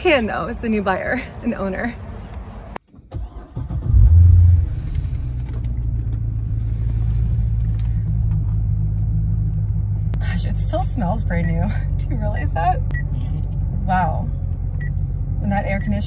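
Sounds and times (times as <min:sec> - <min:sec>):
car engine starting and idling: 0:00.0 - 0:16.0.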